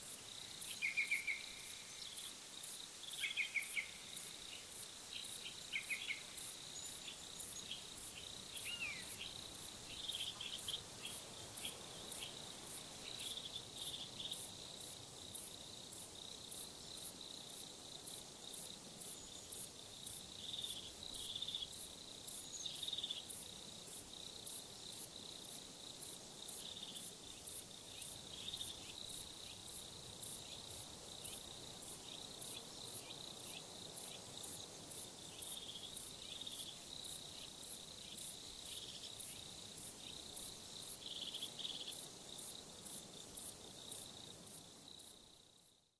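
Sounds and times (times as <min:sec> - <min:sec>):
crickets chirping: 0:00.0 - 0:45.9
high insect trill: 0:00.0 - 0:45.9.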